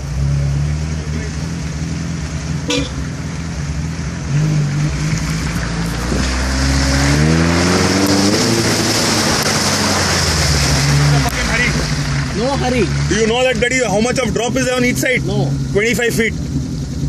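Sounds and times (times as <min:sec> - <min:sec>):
engine running and revving: 0:00.0 - 0:17.0.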